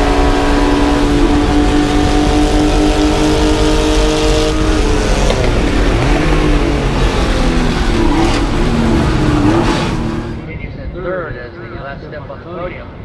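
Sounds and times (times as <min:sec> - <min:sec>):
race car engine revving: 0:00.0 - 0:10.7
road and wind rumble: 0:00.0 - 0:13.0.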